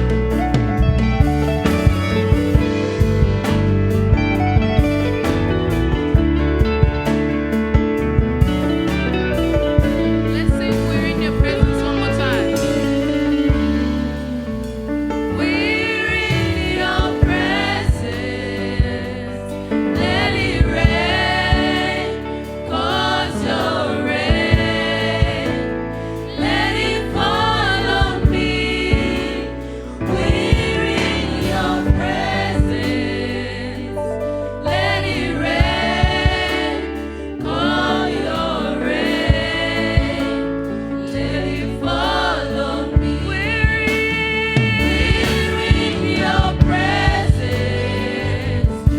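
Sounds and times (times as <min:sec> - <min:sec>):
band playing chords and beats: 0:00.0 - 0:48.9
group singing gospel song: 0:00.0 - 0:48.9.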